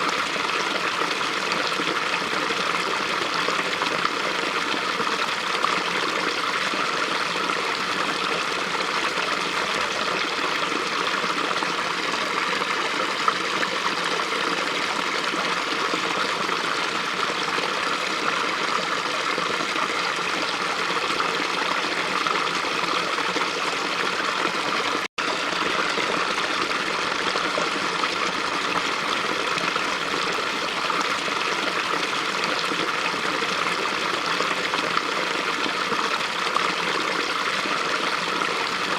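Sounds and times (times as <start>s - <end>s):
brook babbling: 0.0s - 38.9s.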